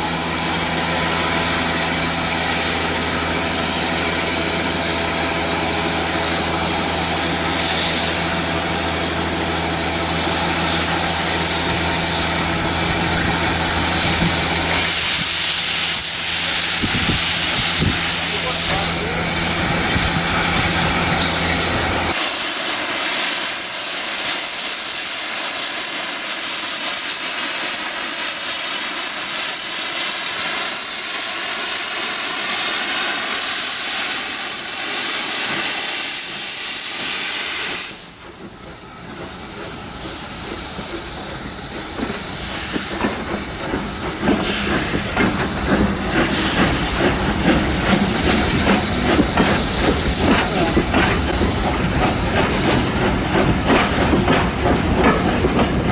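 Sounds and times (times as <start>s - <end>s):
steam locomotive hissing: 0.0s - 55.9s
train rattling: 0.0s - 55.9s.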